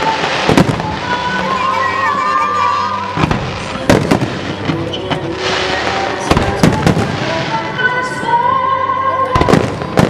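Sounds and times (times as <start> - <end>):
fireworks bangs: 0.0 - 7.9, 9.4 - 10.0
fireworks crackling hiss: 0.0 - 8.2
music: 0.0 - 10.0.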